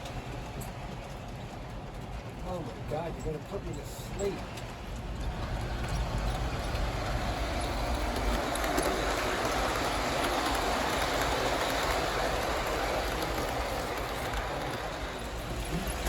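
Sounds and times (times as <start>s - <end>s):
model train wheels rumbling on rail: 0.0s - 16.0s.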